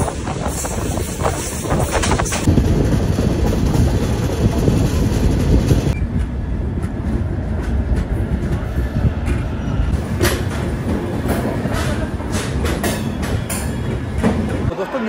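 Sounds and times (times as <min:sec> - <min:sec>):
train coaches rumbling: 0:00.0 - 0:15.0.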